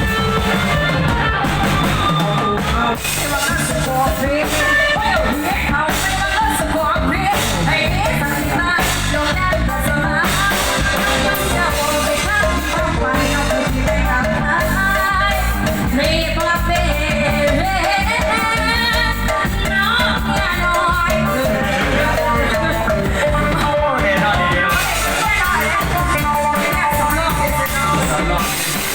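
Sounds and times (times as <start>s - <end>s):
band playing a steady beat: 0.0s - 28.9s
woman singing with vibrato: 0.0s - 28.9s.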